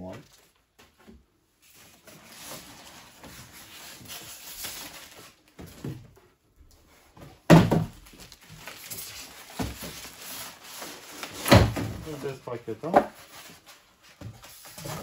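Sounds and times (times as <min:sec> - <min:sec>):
plastic wrapping rustling: 0:01.6 - 0:06.1, 0:06.9 - 0:15.0.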